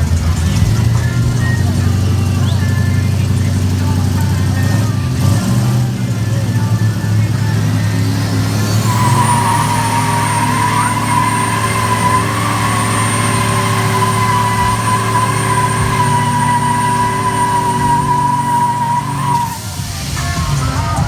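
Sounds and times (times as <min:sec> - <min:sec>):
high whine: 0:00.0 - 0:21.0
truck engine running under load: 0:00.0 - 0:21.0.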